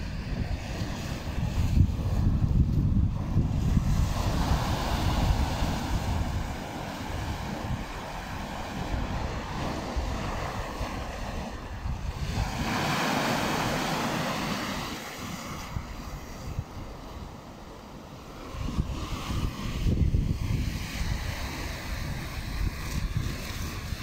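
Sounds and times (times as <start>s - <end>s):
waves breaking on rocks: 0.0s - 24.0s
wind buffeting the microphone: 0.0s - 24.0s.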